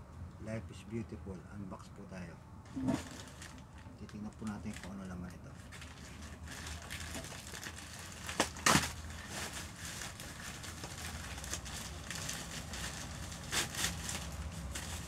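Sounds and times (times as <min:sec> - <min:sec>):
plastic bag crinkling: 0:02.7 - 0:15.0.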